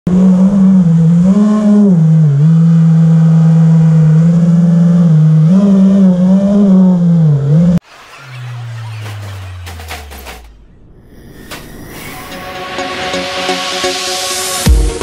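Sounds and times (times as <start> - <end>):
drone motors whining: 0.2 - 12.8.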